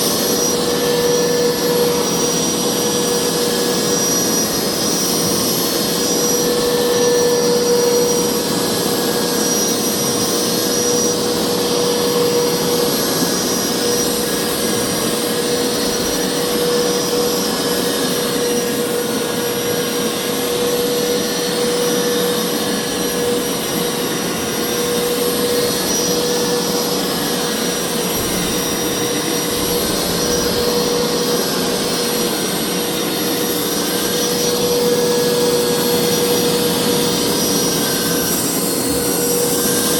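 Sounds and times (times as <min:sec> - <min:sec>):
carpet cleaner motor running: 0:00.0 - 0:39.9.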